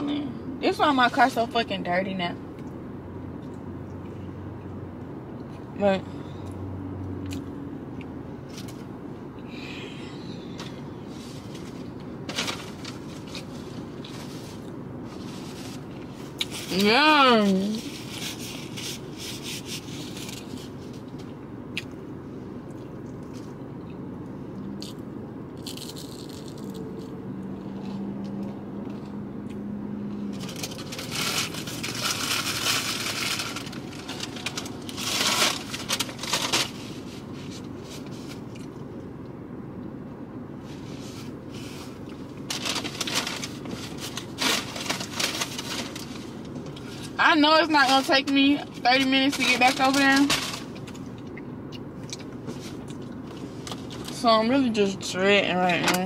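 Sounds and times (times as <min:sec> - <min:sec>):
low hum inside car: 0:00.0 - 0:56.0.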